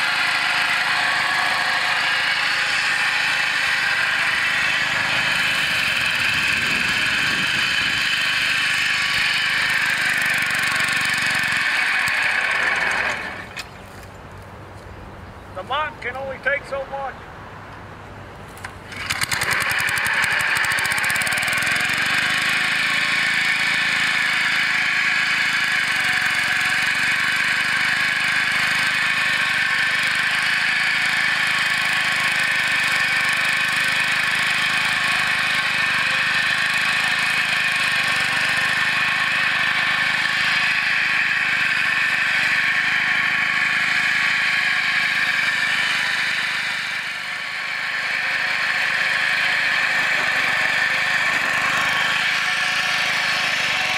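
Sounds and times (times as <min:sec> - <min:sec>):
small gasoline engine running: 0:00.0 - 0:13.8, 0:18.8 - 0:53.9.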